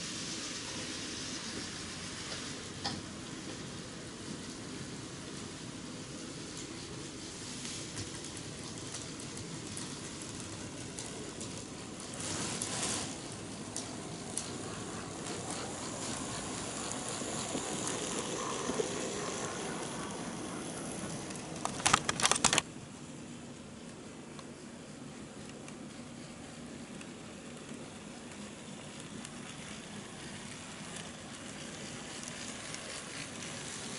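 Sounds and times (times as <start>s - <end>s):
faint high motor whine: 0.0s - 33.9s
model train rolling rumble: 0.0s - 33.9s.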